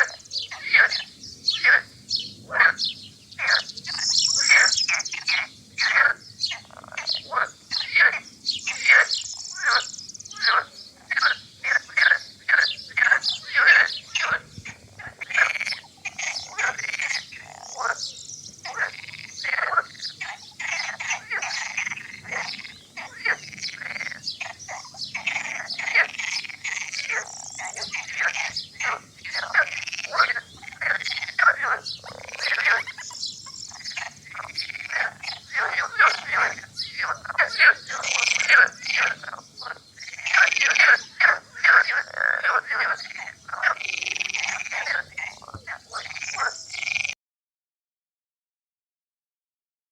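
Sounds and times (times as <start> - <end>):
chorus of frogs croaking: 0.0 - 47.2.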